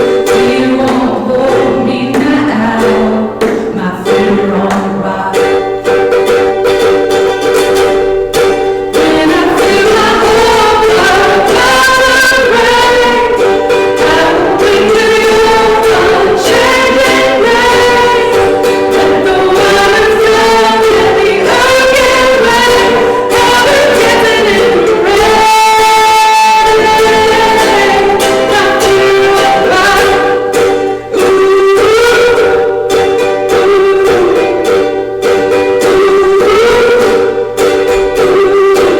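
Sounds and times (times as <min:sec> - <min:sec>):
person singing: 0:00.0 - 0:06.4, 0:08.9 - 0:38.9
strummed string instrument: 0:00.0 - 0:38.9.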